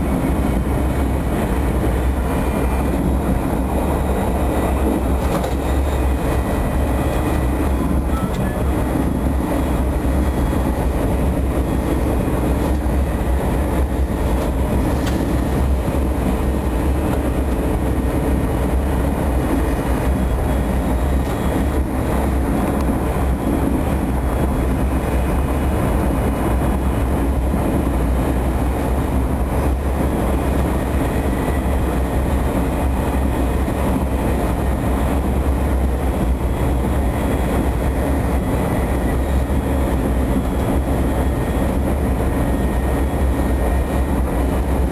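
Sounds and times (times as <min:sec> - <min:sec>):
train rumbling inside carriage: 0:00.0 - 0:44.9.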